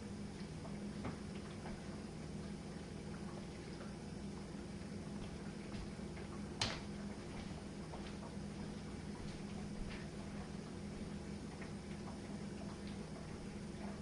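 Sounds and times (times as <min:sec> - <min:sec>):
dishwasher humming: 0:00.0 - 0:14.0.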